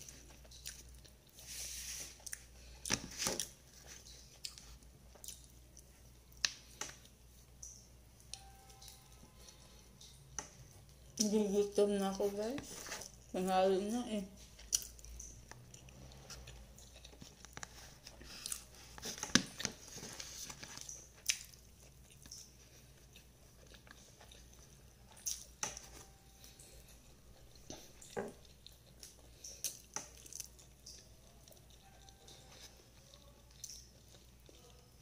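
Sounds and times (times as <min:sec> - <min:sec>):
person chewing food: 0:00.0 - 0:11.3, 0:14.4 - 0:35.0.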